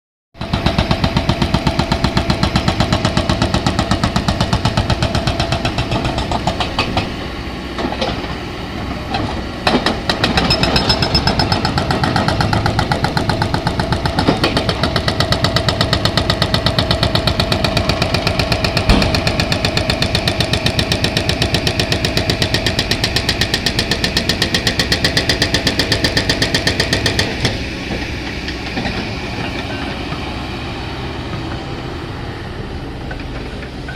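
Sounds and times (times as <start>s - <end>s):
excavator diesel engine running: 0.4s - 33.9s.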